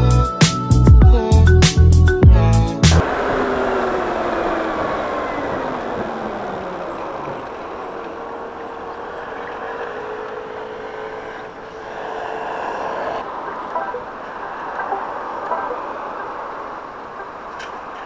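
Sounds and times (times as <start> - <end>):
wind and road noise: 2.9 - 18.0.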